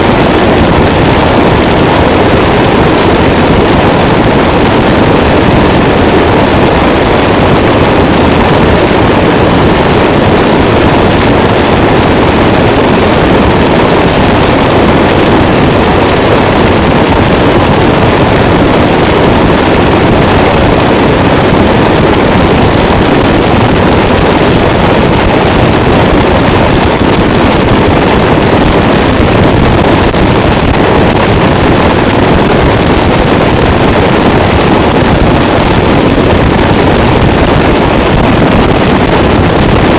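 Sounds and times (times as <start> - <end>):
dense distorted static: 0.0 - 39.9.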